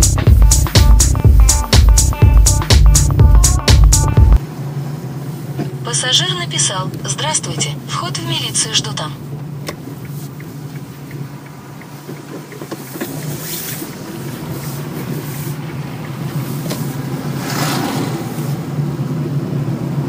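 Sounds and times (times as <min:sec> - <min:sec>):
car engine and road hum: 0:00.0 - 0:20.0.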